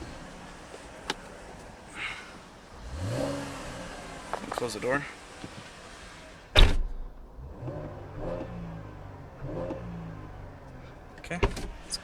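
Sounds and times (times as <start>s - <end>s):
car door shutting: 0.0s - 12.0s
car engine revving: 0.0s - 12.0s.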